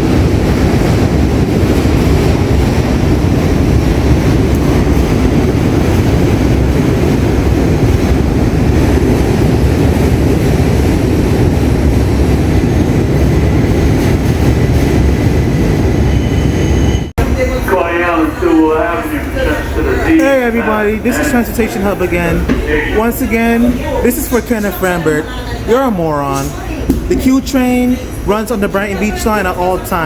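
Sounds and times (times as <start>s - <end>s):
subway train wheels rumbling: 0.0s - 30.0s.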